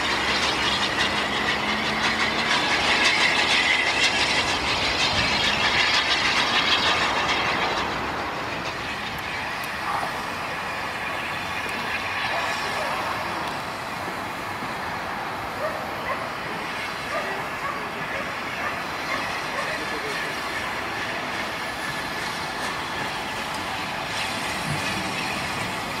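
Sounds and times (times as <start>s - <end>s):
steam train wheels clattering: 0.0s - 26.0s.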